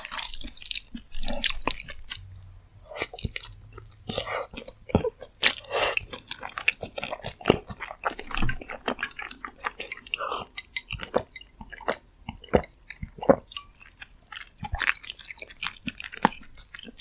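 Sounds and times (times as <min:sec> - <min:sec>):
wet sticky chewing: 0:00.0 - 0:17.0.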